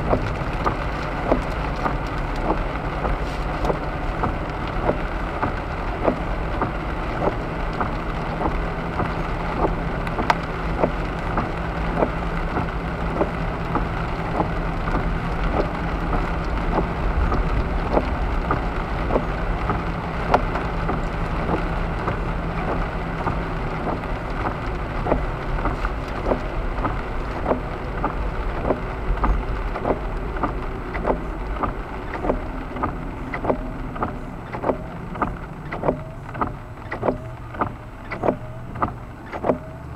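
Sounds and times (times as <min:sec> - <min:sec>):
car driving on wet road: 0:00.0 - 0:39.9
raindrops ticking on car: 0:00.0 - 0:39.9.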